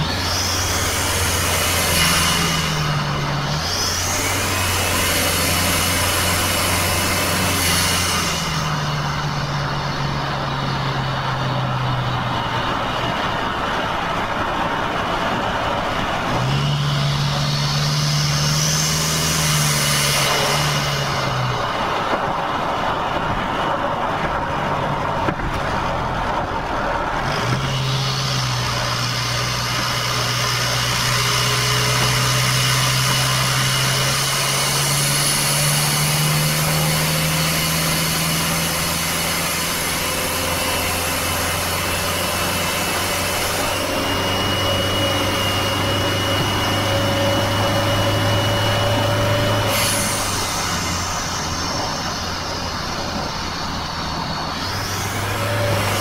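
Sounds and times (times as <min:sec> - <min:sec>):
diesel engine driving: 0:00.0 - 0:56.0
road noise: 0:00.0 - 0:56.0.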